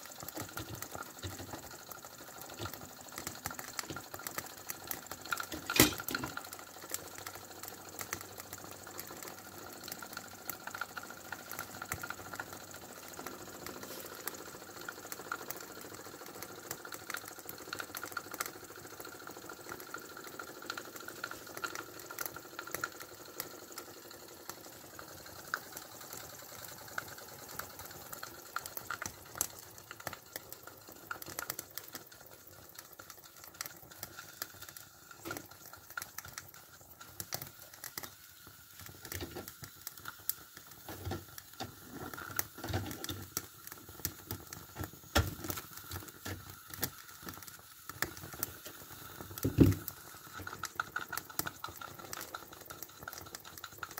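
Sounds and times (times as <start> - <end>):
clicks and crackles: 0.0 - 53.9.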